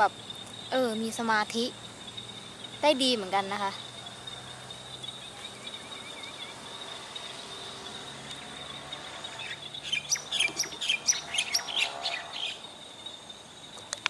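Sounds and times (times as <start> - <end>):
birds chirping: 0.0 - 14.0
insects buzzing: 0.0 - 14.0.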